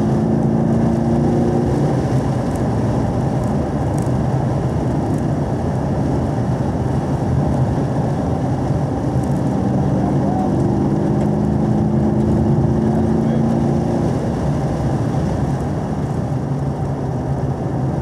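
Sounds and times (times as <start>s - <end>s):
car engine droning: 0.0s - 18.0s
road and tyre noise: 0.0s - 18.0s.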